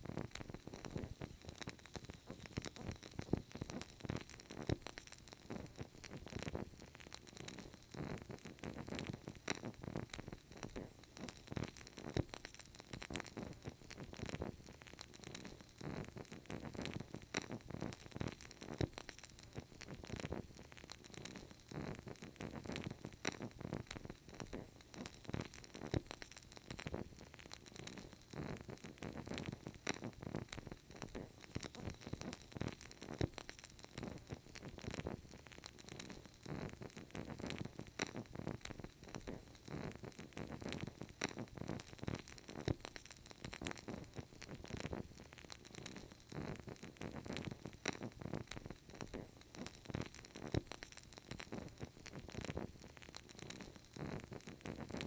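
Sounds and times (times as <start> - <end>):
candle crackling: 0.0 - 55.0.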